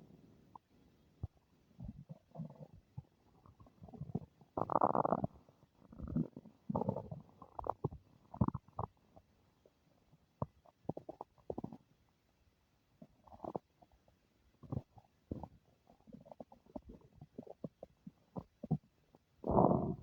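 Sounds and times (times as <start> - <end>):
stomach rumbling and gurgling: 0.0 - 20.0.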